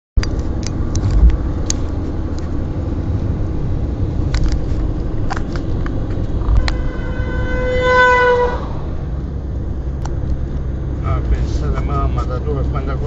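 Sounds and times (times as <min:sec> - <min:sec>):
vehicle rumble from inside: 0:00.2 - 0:13.0.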